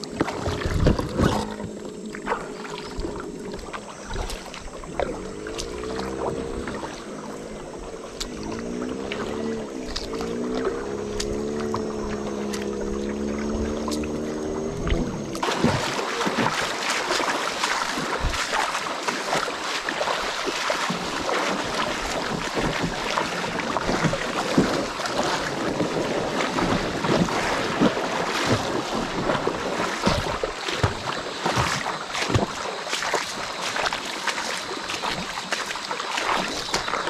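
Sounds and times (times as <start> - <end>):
river water splashing and rushing: 0.0 - 37.0
small splashes and knocks: 0.0 - 37.0.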